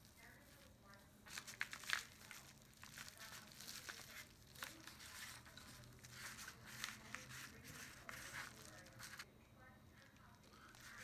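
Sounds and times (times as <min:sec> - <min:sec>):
paper mailer rustling and crinkling: 0:00.0 - 0:09.3, 0:10.1 - 0:11.0.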